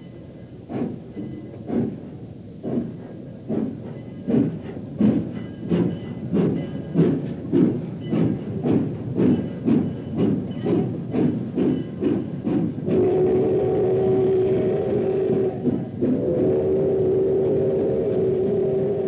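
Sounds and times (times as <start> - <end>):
steam locomotive chuffing: 0.0 - 19.0
steam hissing: 0.7 - 19.0.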